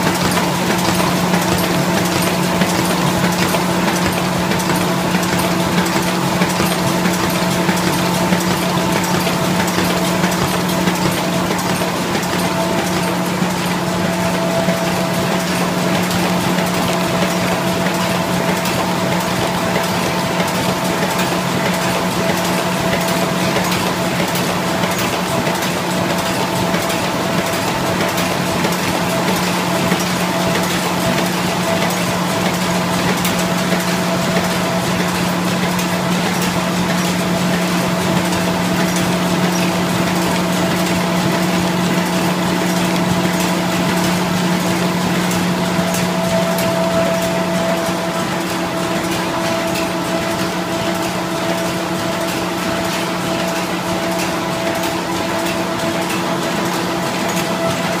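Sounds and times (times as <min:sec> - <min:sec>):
machine humming and clattering: 0:00.0 - 0:58.0.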